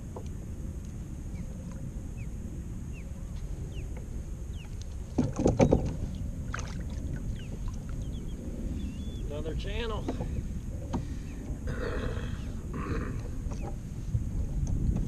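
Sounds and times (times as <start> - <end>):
wind and water wash: 0.0 - 15.0.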